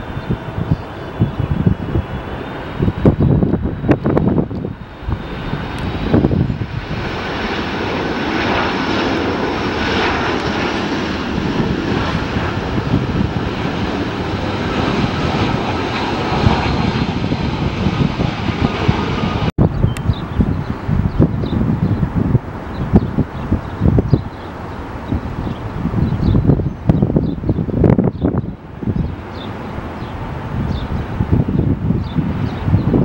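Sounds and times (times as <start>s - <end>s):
jet airliner engine noise: 0.0s - 33.0s.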